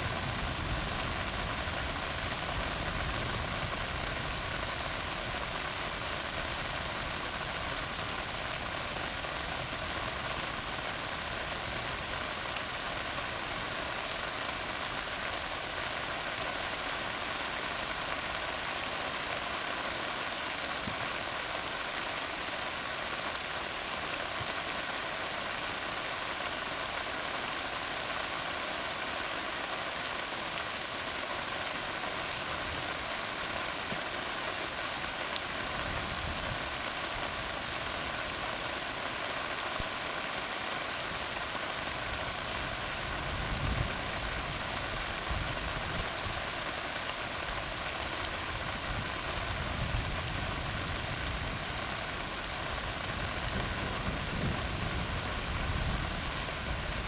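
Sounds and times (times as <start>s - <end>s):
rain falling on a road: 0.0s - 57.0s.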